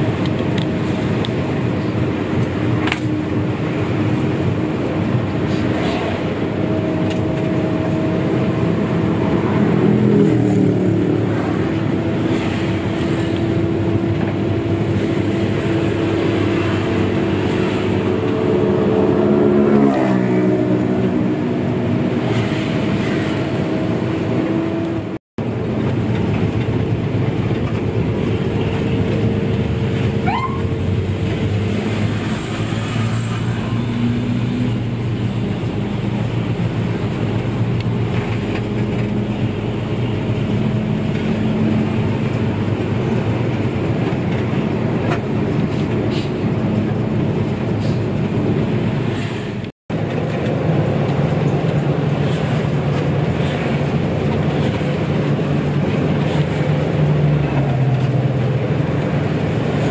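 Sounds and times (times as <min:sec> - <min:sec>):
bus engine running: 0:00.0 - 0:59.9
road and cabin noise: 0:00.0 - 0:59.9.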